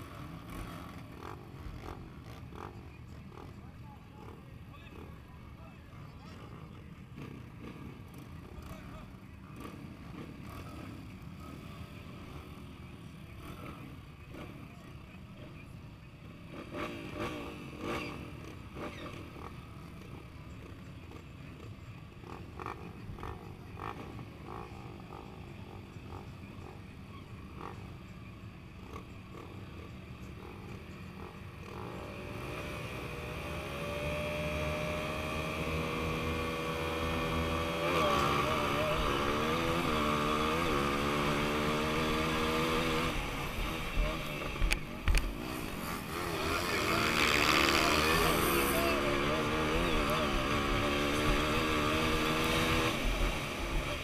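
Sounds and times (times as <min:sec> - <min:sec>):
dirt bike engines rumbling: 0:00.0 - 0:54.0.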